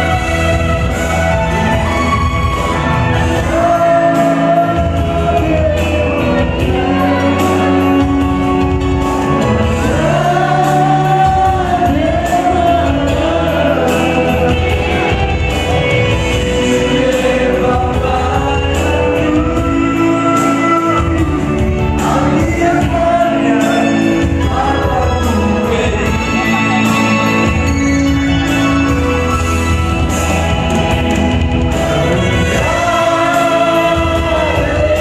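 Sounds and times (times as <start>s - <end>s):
men singing together: 0.0s - 27.7s, 31.7s - 35.0s
amplified backing music: 0.0s - 35.0s.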